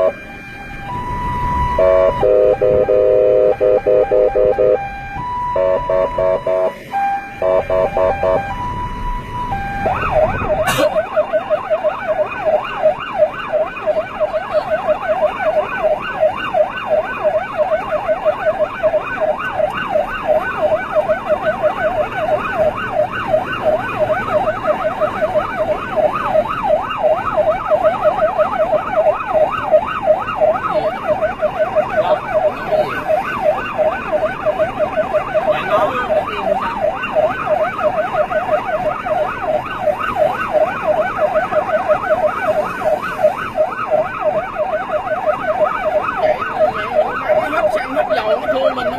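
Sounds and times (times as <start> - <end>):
police siren yelping: 0.0 - 48.9.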